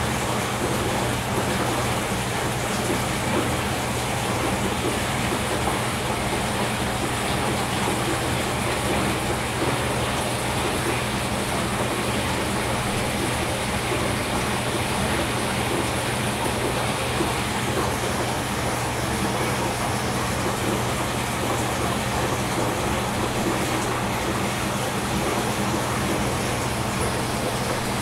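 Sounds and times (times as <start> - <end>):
bubbling water from filter: 0.0 - 28.0.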